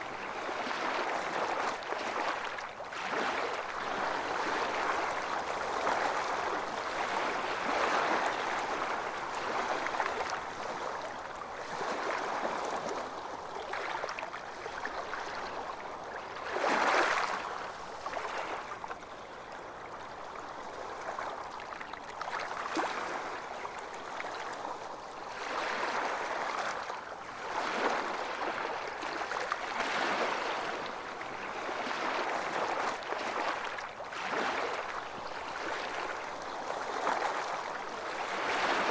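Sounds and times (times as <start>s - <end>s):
ocean waves washing on beach: 0.0s - 19.9s, 22.2s - 38.9s.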